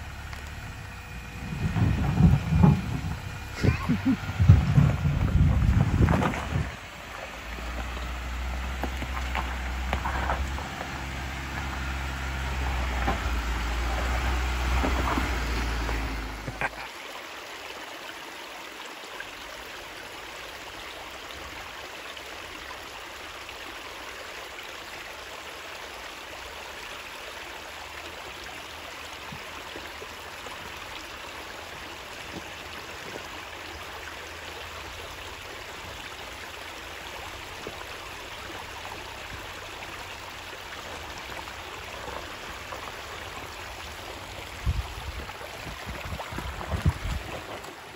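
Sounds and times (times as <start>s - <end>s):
engine low rumble: 0.0s - 18.4s, 19.1s - 47.9s.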